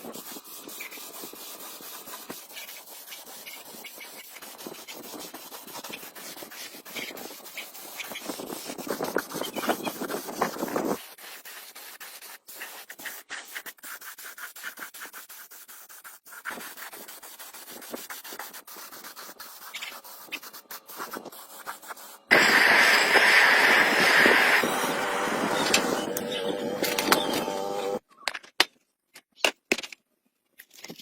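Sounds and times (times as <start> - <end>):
sanding vehicle bodywork: 0.0 - 28.0.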